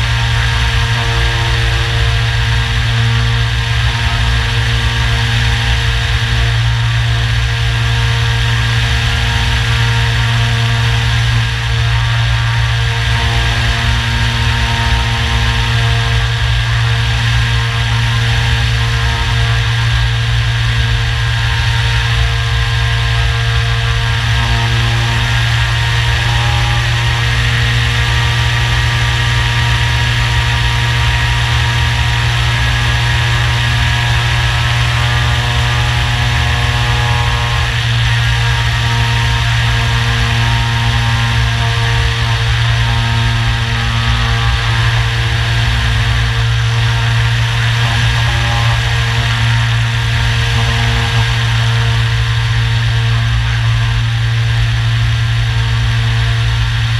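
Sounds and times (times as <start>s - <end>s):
electric motor and propeller drone: 0.0s - 56.9s.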